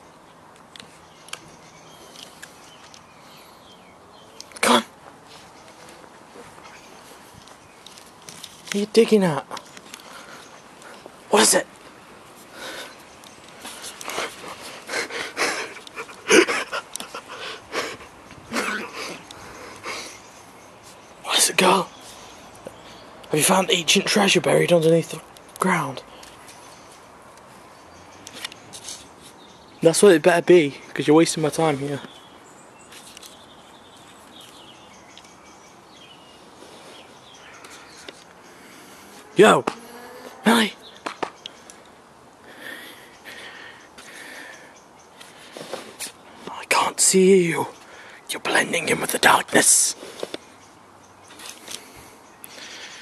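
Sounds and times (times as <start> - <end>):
steady low hiss: 0.0 - 53.0.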